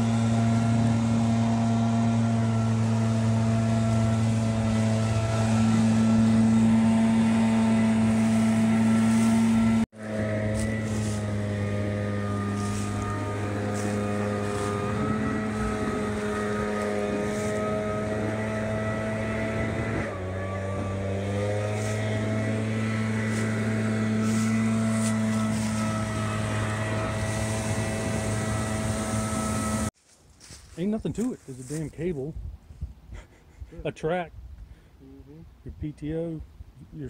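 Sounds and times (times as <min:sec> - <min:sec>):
leaf blower engine running: 0:00.0 - 0:31.9.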